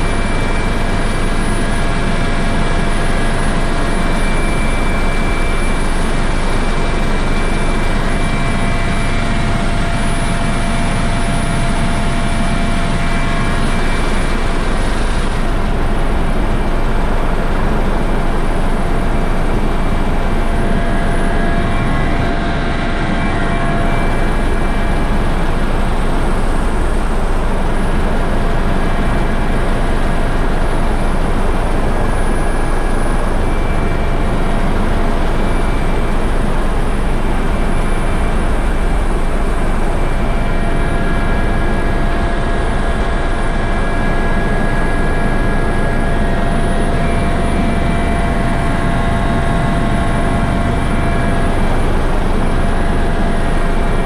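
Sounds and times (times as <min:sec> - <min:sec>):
helicopter engine and rotor roar: 0:00.0 - 0:54.0
thin steady whine: 0:00.0 - 0:54.0.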